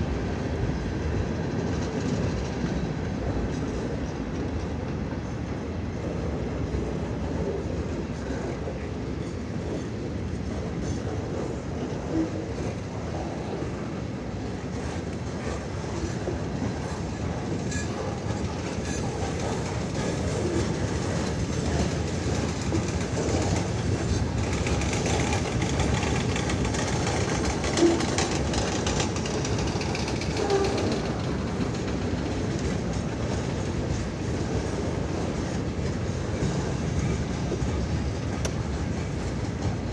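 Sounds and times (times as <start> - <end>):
railroad car clanks: 0.0 - 39.9
train wheels clickety-clack: 0.0 - 39.9.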